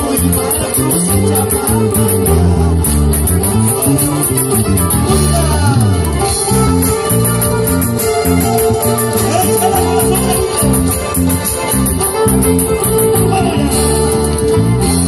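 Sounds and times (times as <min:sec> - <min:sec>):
bass line: 0:00.0 - 0:15.0
live band music: 0:00.0 - 0:15.0.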